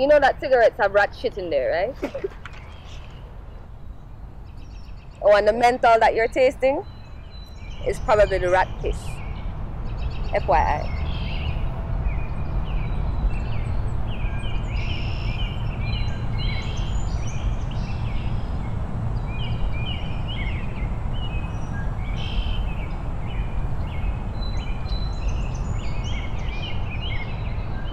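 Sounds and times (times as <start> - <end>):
birds chirping: 0.0 - 27.9
low outdoor rumble: 0.0 - 27.9.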